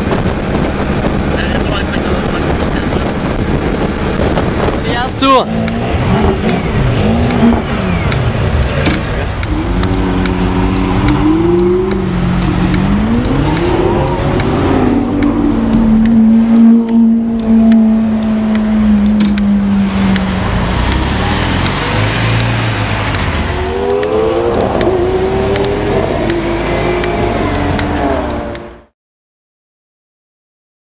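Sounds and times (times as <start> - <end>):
car engine accelerating: 0.0 - 28.9
road and wind noise: 0.0 - 29.0.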